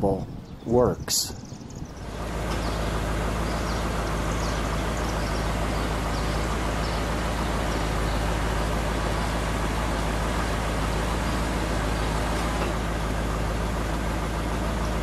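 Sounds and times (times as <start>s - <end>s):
car engine idling: 1.4s - 15.0s.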